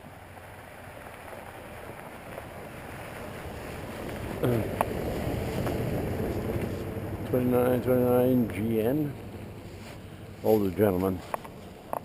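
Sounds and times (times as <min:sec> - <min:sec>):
vehicle approaching on road: 0:00.0 - 0:12.0.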